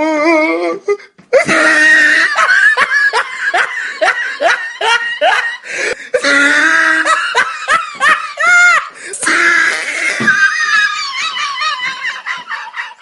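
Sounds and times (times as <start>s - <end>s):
person laughing heartily: 1.0s - 13.0s.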